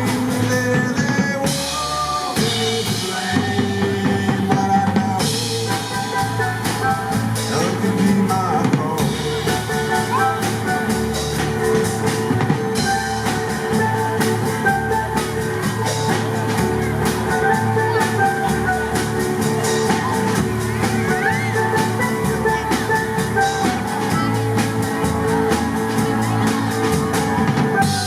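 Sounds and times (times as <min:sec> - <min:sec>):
bass: 0:00.0 - 0:28.0
drum kit steady beat: 0:00.0 - 0:28.0
lead melody notes: 0:05.2 - 0:28.0.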